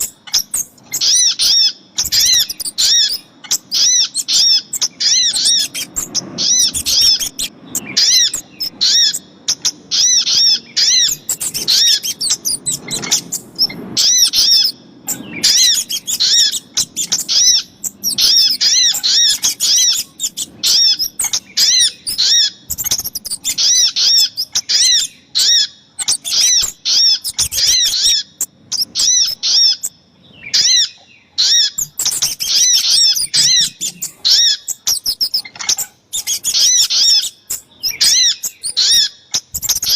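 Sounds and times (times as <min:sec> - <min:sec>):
high arched bird chirps: 0:00.0 - 0:39.9.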